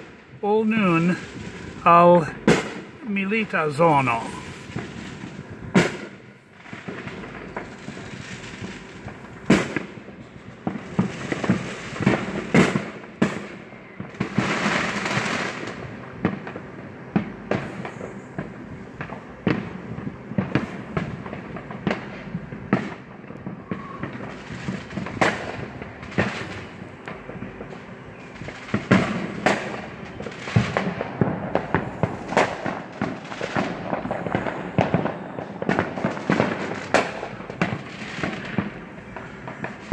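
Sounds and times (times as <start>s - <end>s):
firework hissing crackle: 0.0s - 39.9s
fireworks bangs and pops: 0.0s - 39.9s.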